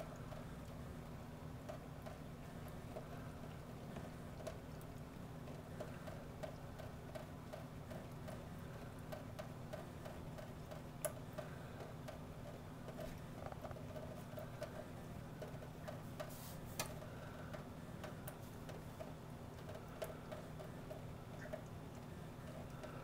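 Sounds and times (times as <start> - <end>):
kitten lapping water: 0.0 - 23.0
water trickling from faucet: 0.0 - 23.0.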